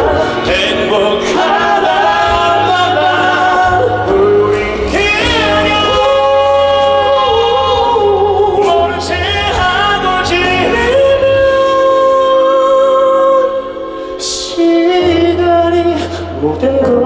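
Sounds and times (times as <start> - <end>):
band backing: 0.0 - 17.0
men singing pop ballad: 0.0 - 17.0.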